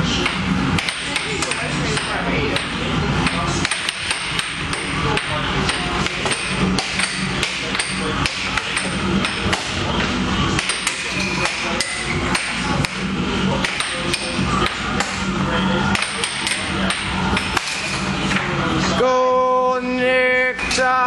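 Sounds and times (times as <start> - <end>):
steady low hum: 0.0 - 21.0
air hockey puck clacking: 0.2 - 13.0, 13.6 - 15.2, 15.9 - 18.5.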